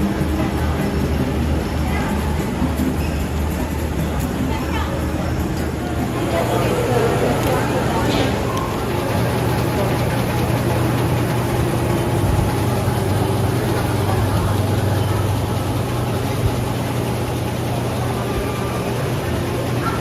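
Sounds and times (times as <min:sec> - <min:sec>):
constant background noise: 0:00.0 - 0:20.0
low mechanical engine drone: 0:00.0 - 0:20.0.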